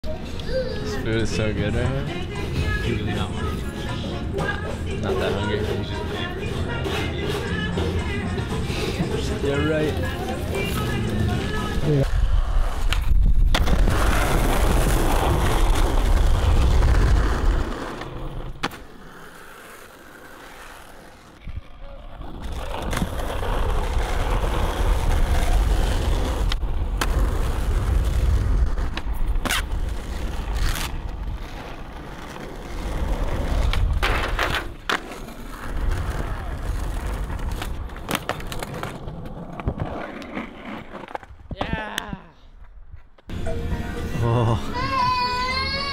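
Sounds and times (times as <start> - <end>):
skateboard wheels rumbling on asphalt: 1.3 - 41.6.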